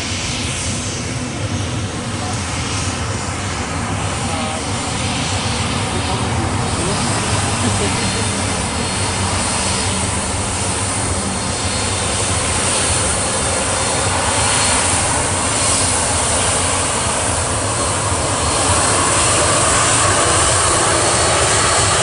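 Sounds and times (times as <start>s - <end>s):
jet engines taxiing: 0.0s - 22.0s.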